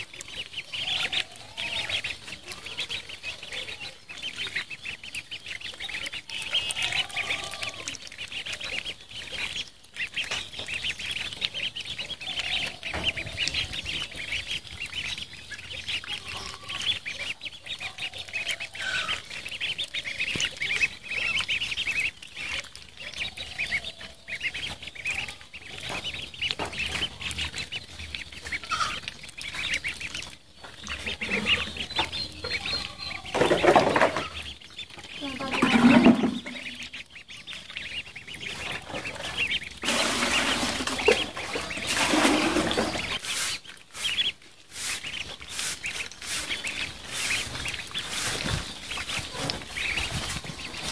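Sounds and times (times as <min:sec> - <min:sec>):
ducklings peeping: 0:00.0 - 0:50.9.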